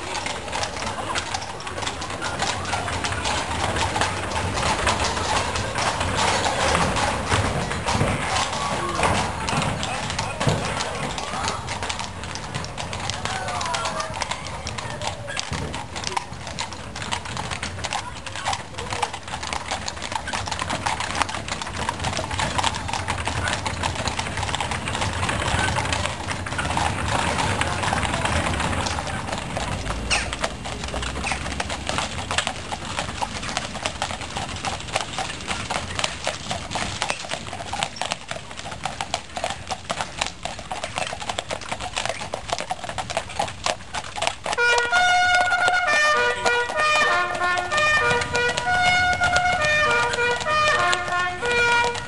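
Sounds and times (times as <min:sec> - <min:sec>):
horse hooves clip-clopping: 0:00.0 - 0:52.0.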